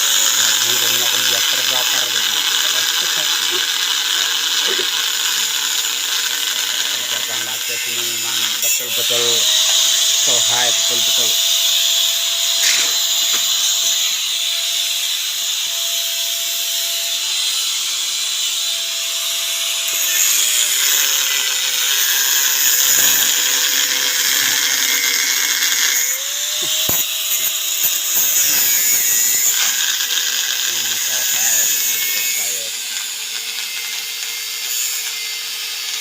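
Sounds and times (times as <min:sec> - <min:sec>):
power tool motor whine: 0:00.0 - 0:36.0.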